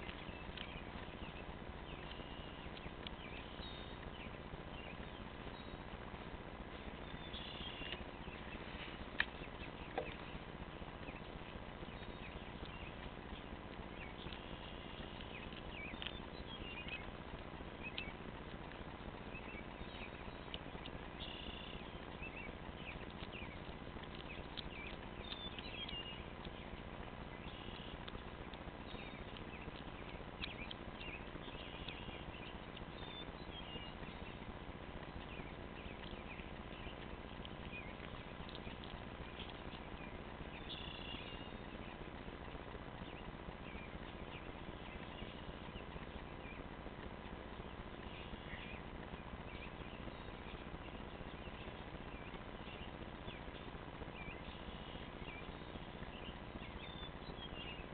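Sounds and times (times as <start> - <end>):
cat chewing and crunching: 0.0 - 57.9
faint hum: 0.0 - 57.9
small birds chirping: 0.0 - 57.9.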